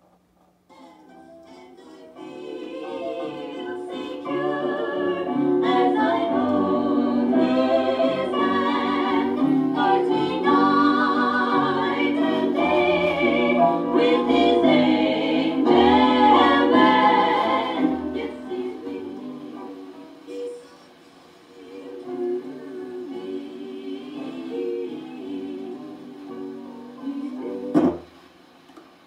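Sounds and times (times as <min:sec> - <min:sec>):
choir singing on vinyl record: 0:00.7 - 0:28.6.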